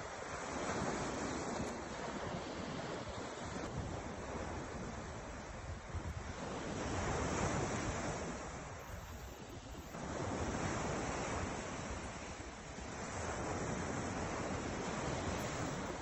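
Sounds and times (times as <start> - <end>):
ocean surf breaking: 0.2 - 16.0
wind buffeting microphone: 0.2 - 16.0.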